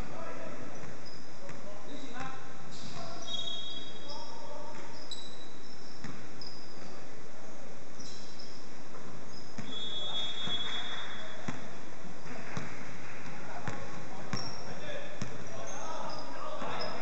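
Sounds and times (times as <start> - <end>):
sneakers squeaking: 0.0 - 7.1, 8.0 - 17.0.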